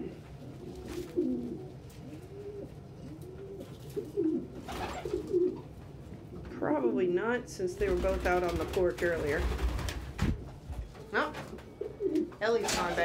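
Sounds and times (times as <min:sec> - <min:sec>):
pigeons cooing: 0:00.0 - 0:06.4, 0:08.4 - 0:13.0.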